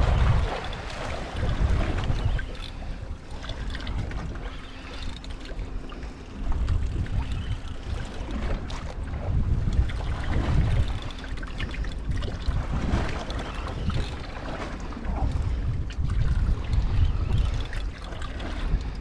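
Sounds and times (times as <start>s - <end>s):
water lapping against boat: 0.0s - 19.0s
wind buffeting microphone: 0.0s - 19.0s.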